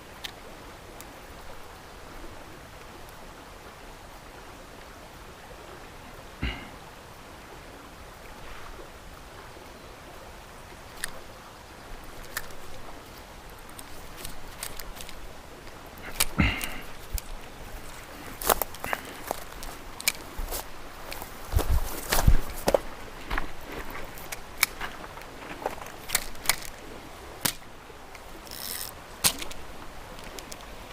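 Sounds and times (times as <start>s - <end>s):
flowing creek: 0.0s - 30.9s.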